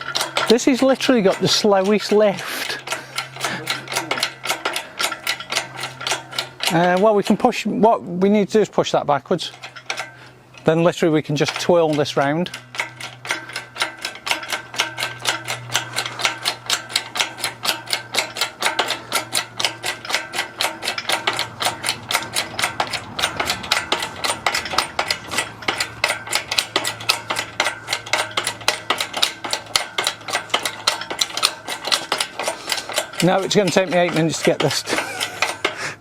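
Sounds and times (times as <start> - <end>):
engine crane mechanism clicking: 0.0 - 36.0.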